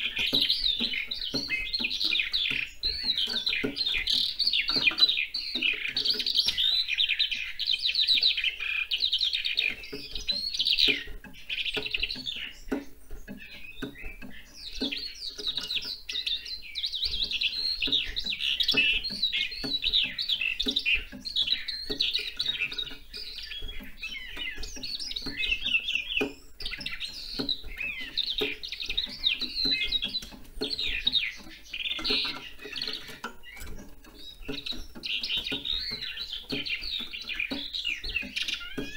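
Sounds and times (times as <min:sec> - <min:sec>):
skylark warbling song: 0:00.0 - 0:38.9.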